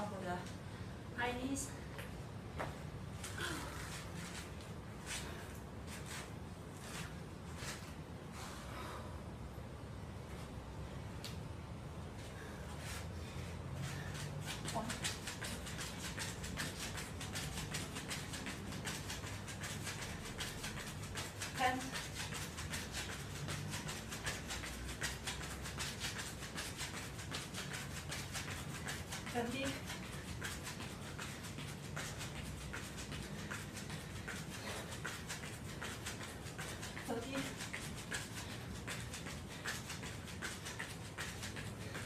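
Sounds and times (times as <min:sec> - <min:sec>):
footsteps on exercise mat: 0:01.9 - 0:08.0, 0:12.2 - 0:42.0.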